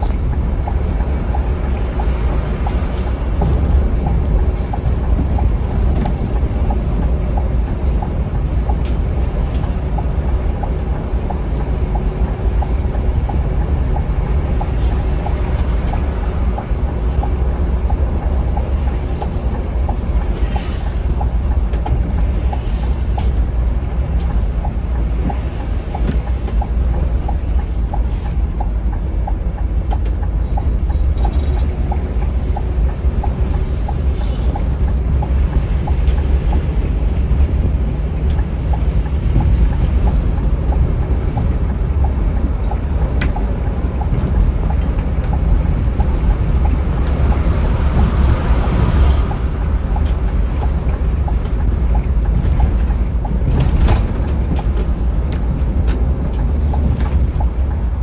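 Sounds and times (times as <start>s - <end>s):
faint regular ticking: 0.0s - 57.9s
coach engine and tyres rumbling: 0.0s - 58.0s.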